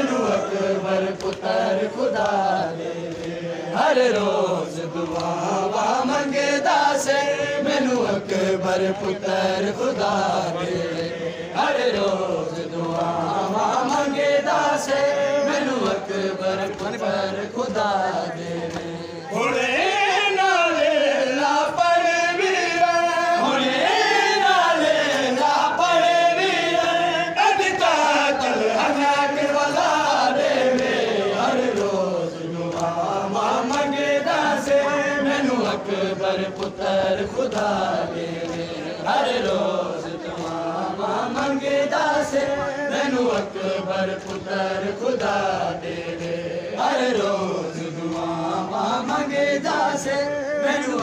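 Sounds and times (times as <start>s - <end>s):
men chanting a lament: 0.0s - 51.0s.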